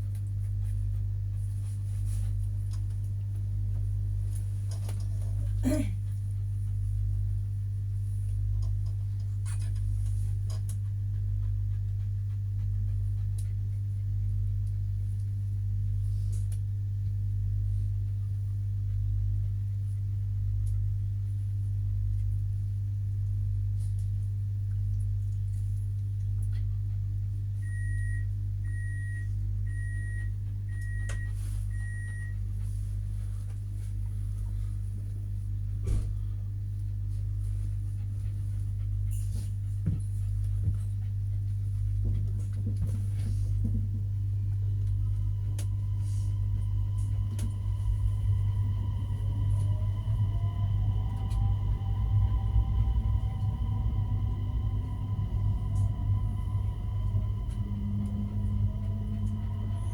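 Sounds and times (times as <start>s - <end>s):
train hum and rumble: 0.0s - 16.5s, 26.8s - 59.9s.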